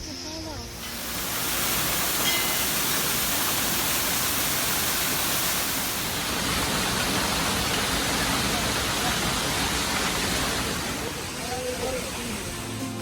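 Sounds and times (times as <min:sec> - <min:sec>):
waterfall rushing: 0:00.8 - 0:13.0.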